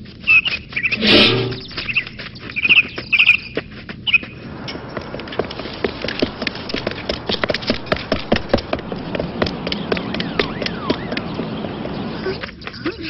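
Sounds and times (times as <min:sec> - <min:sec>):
tapping footsteps: 0:00.0 - 0:13.0.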